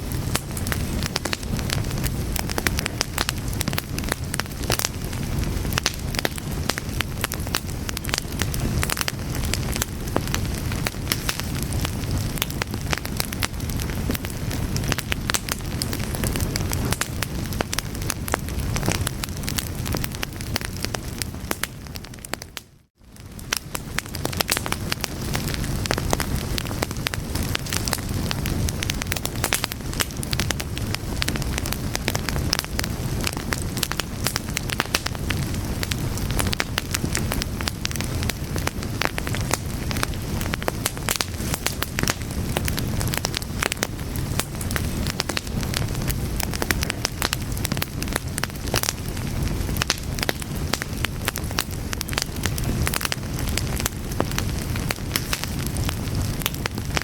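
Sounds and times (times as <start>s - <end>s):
fire crackling and popping: 0.0s - 57.0s
low rush of flames: 0.0s - 57.0s.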